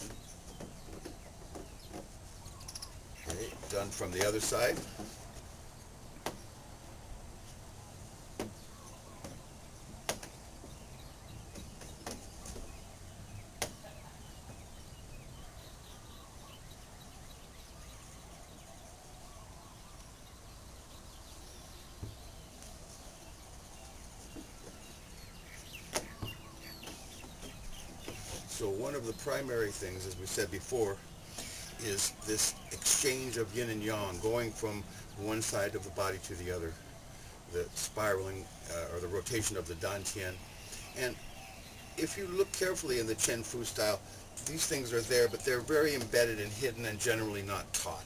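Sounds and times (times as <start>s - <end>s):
low steady background noise: 0.0s - 48.0s.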